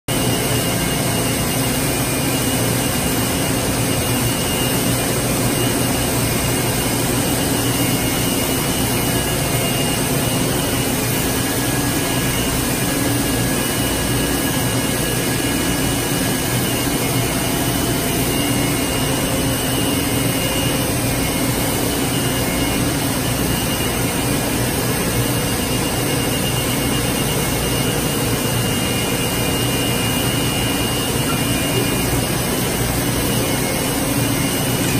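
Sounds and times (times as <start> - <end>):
machinery droning: 0.1 - 34.9.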